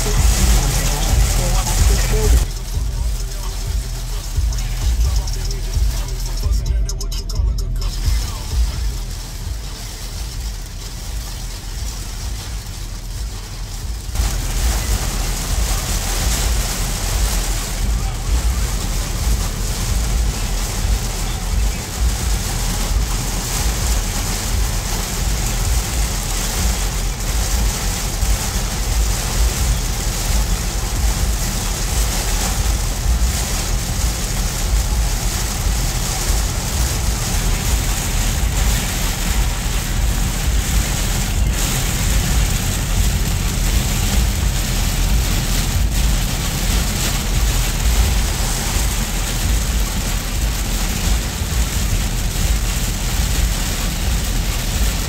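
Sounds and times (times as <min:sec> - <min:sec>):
heavy rain on car roof: 0:00.0 - 0:55.0
tyres on wet road: 0:00.0 - 0:55.0.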